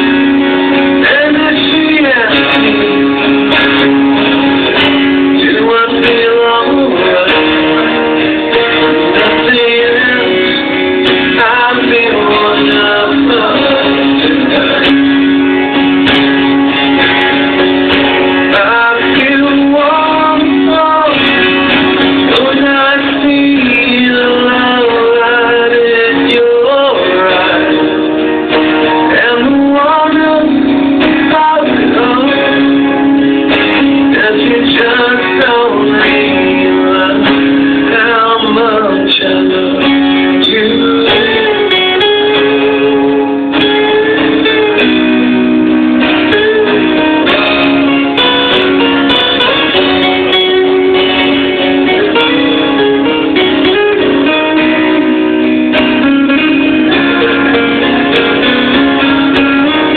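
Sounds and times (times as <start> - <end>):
man singing: 0.0 - 4.0, 4.6 - 16.0, 16.8 - 59.9
strummed guitar: 0.0 - 59.9.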